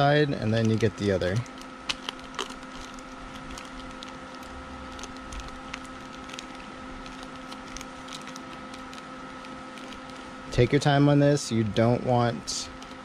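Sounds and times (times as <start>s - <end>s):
steady background hum: 0.0s - 13.0s
plastic bag crinkling and tearing: 0.5s - 10.6s, 12.6s - 13.0s.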